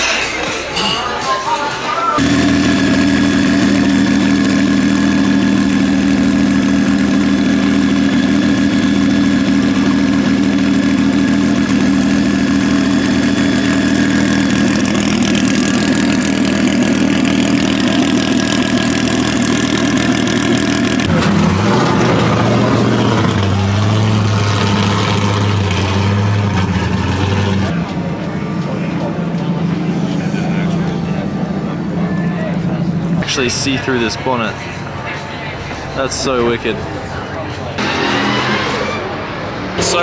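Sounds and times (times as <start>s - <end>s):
car engine idling: 2.2s - 40.0s.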